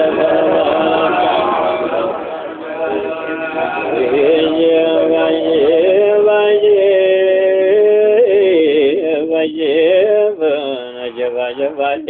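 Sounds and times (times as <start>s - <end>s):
man singing long notes: 0.0s - 12.0s.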